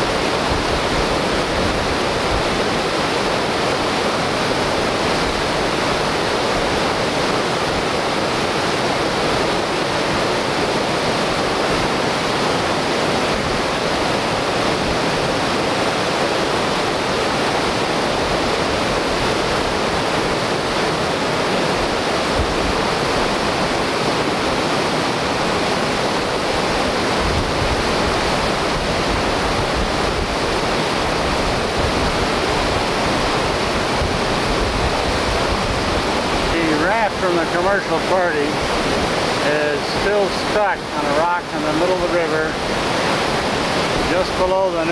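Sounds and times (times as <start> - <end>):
whitewater rapid rushing: 0.0 - 44.9.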